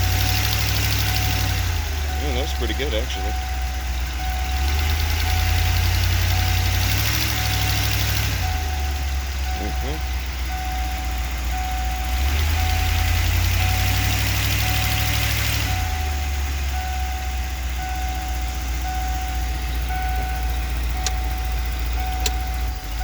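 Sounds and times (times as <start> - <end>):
van engine idling and revving: 0.0 - 23.0.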